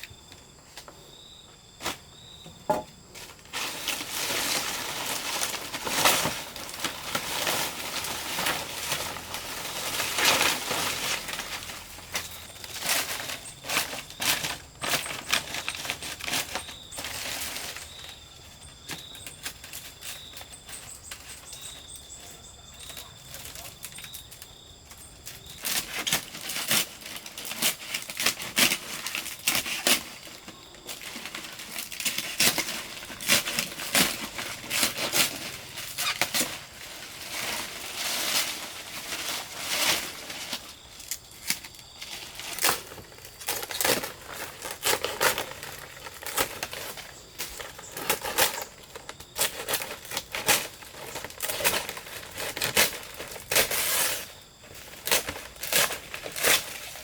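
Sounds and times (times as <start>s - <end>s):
material crinkling and rustling: 2.7s - 18.3s, 25.3s - 57.0s.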